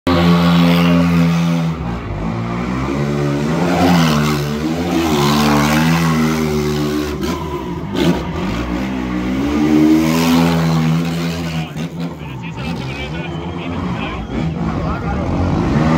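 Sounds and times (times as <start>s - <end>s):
quad engine revving: 0.1s - 15.9s.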